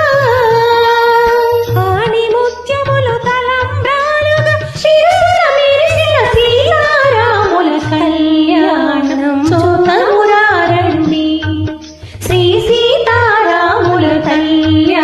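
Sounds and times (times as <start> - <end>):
woman singing devotional song: 0.0 - 15.0.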